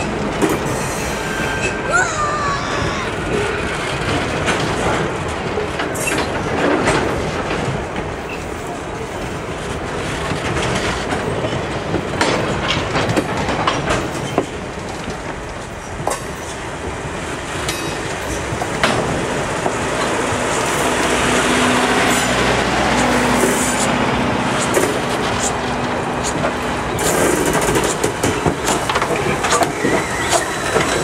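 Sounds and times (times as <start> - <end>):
train wheels rumbling on rail: 0.0 - 31.0
wheels clanking over rail joints: 3.3 - 31.0.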